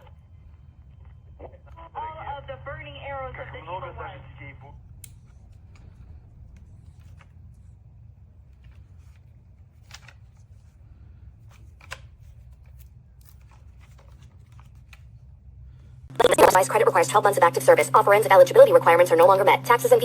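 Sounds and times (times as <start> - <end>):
steady low hum: 0.0 - 13.8, 15.0 - 20.0.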